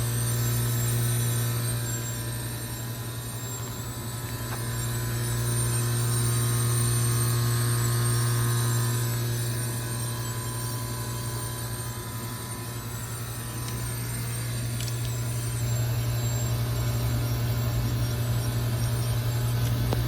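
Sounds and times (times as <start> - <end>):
compressor hum: 0.0 - 20.0.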